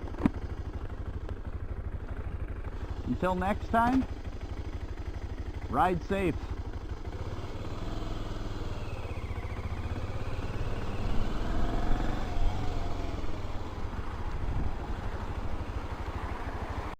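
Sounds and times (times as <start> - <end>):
motorcycle engine running: 0.0 - 16.9.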